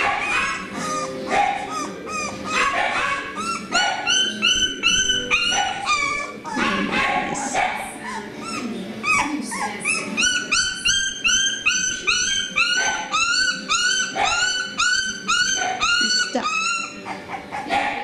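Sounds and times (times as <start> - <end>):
puppy whimpering yelps: 0.0 - 18.0.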